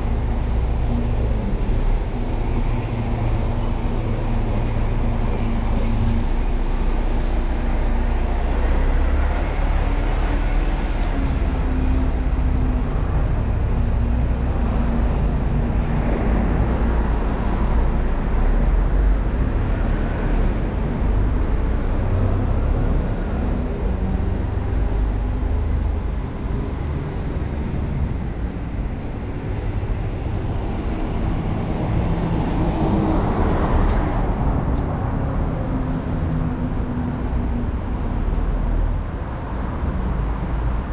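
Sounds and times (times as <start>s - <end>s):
cars passing: 0.0s - 40.9s.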